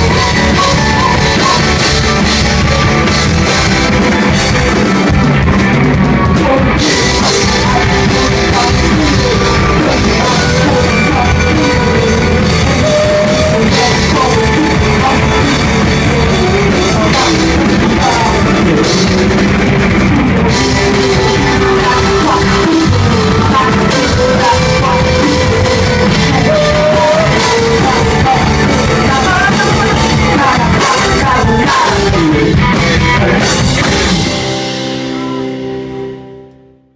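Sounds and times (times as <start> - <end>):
person singing: 0.0 - 35.4
live rock band playing: 0.0 - 36.8.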